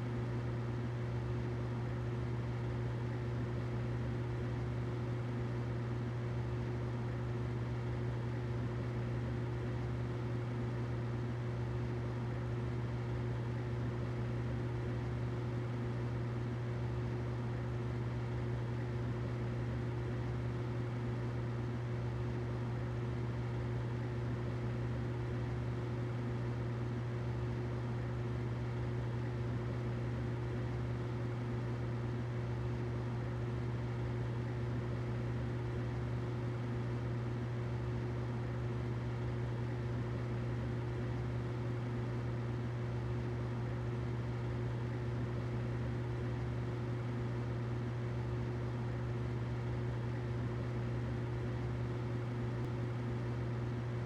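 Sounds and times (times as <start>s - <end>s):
humidifier humming and hissing: 0.0s - 54.0s.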